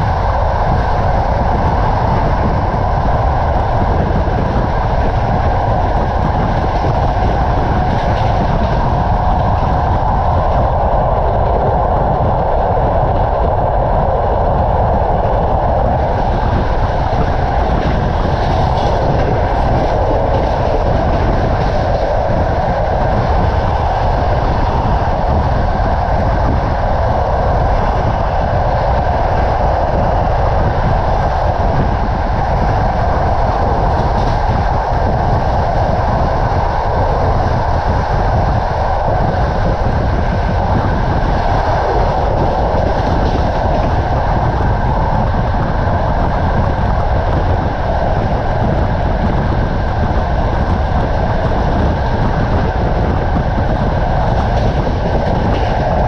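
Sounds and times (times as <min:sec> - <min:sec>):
rushing air: 0:00.0 - 0:56.0
train wheels rumbling on rails: 0:00.0 - 0:56.0.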